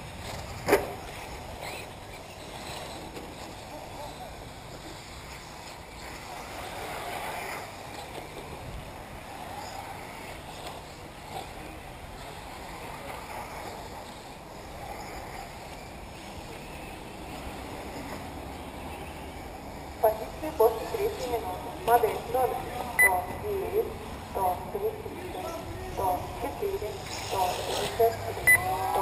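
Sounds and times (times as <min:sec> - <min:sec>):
model cars buzzing: 0:00.0 - 0:23.0, 0:23.6 - 0:29.0.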